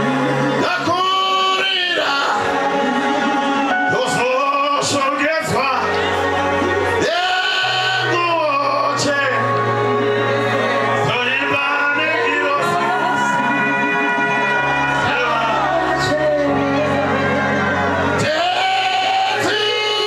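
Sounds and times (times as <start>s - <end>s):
man singing: 0.0s - 9.9s, 10.8s - 20.0s
church choir singing a hymn: 0.0s - 20.0s
low bass notes: 0.0s - 20.0s.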